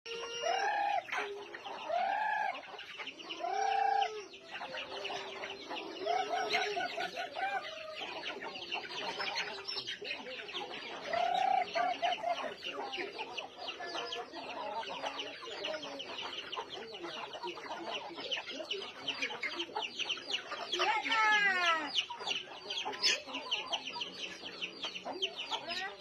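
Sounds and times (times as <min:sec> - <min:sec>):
chickens clucking and calling: 0:00.1 - 0:26.0.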